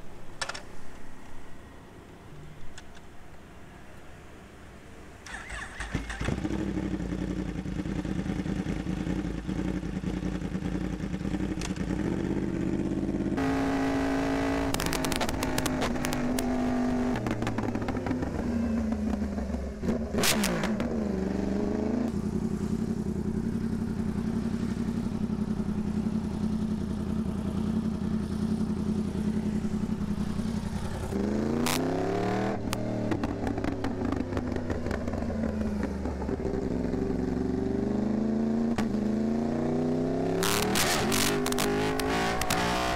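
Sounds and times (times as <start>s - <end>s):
exhaust crackles: 5.2s - 39.2s, 39.8s - 42.9s
motorcycle engine revving: 5.2s - 42.9s.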